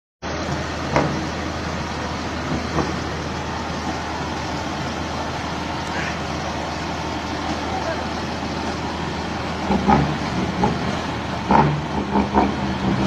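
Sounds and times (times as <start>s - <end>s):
truck engine rumbling: 0.2s - 13.0s.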